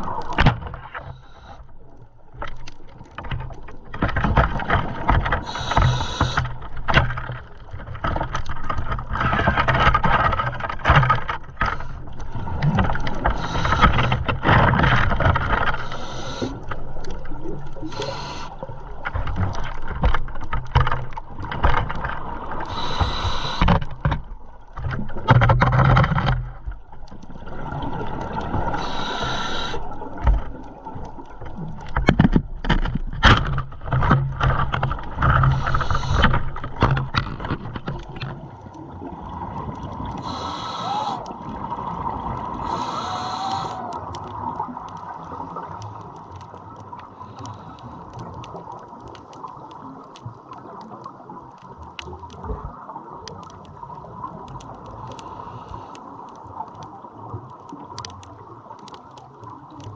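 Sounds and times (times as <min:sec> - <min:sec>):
underwater low hum: 0:00.0 - 0:59.9.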